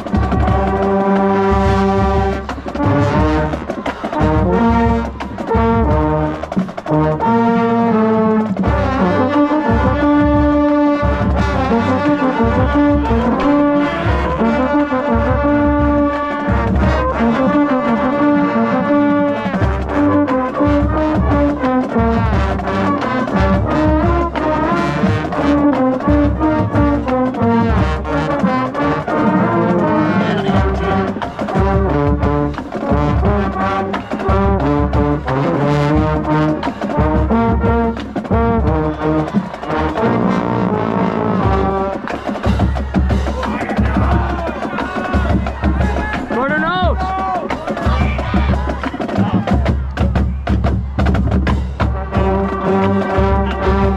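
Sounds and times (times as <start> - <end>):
marching band brass fanfare: 0.0 - 53.9.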